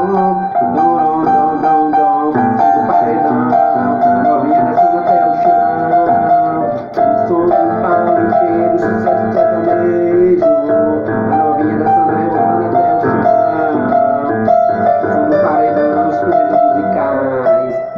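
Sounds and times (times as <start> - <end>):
keyboard melody with backing music: 0.0 - 17.9.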